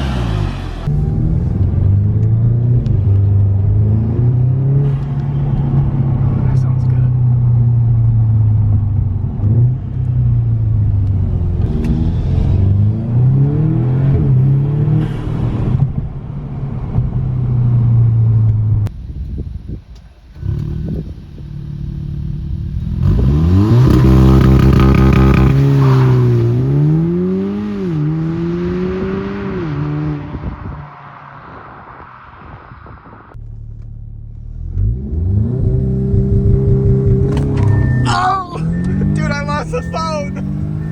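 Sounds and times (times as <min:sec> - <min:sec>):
turbocharged car engine revving: 0:00.0 - 0:15.8, 0:19.1 - 0:30.8, 0:34.3 - 0:40.9.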